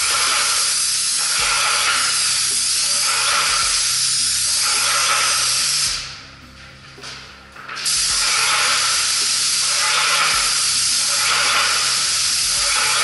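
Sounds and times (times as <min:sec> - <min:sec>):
paint spray gun hissing: 0:00.0 - 0:06.2, 0:07.8 - 0:13.0.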